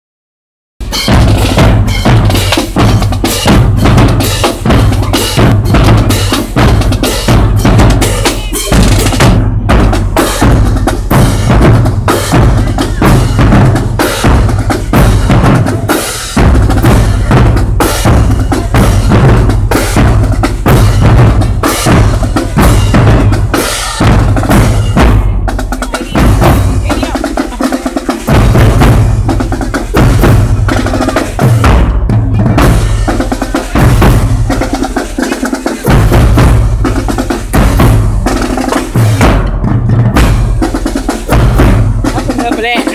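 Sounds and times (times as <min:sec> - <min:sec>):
bass drums beating: 0:00.8 - 0:42.9
marching drumline playing: 0:00.8 - 0:42.9.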